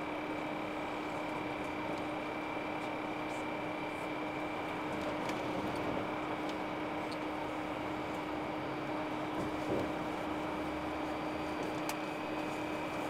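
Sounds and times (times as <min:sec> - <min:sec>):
constant hum: 0:00.0 - 0:13.0
road noise inside vehicle: 0:00.0 - 0:13.0.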